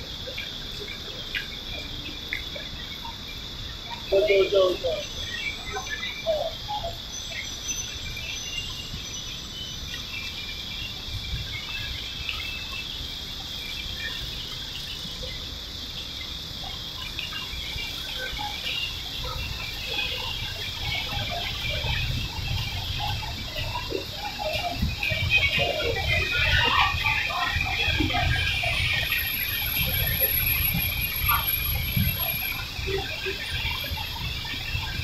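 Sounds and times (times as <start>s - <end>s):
faint chirps: 0.0s - 35.0s
high insect drone: 0.0s - 35.0s.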